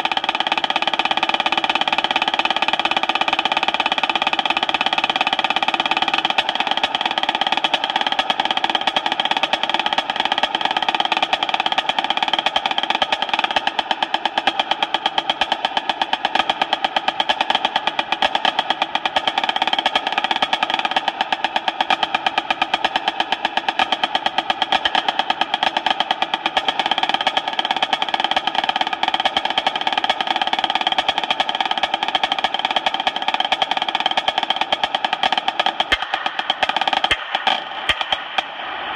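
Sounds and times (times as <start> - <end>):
marching snare drum solo: 0.0 - 38.9.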